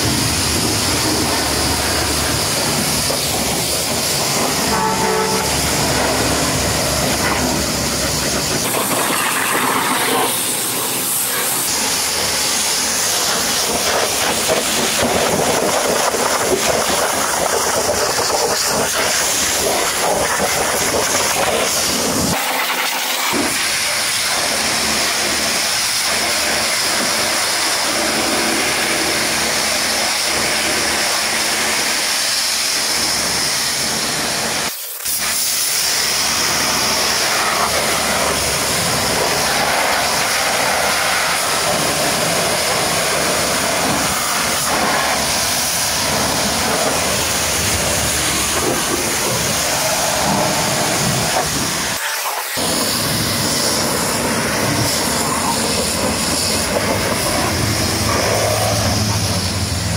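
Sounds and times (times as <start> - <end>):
pressure washer jet hissing: 0.0 - 59.9.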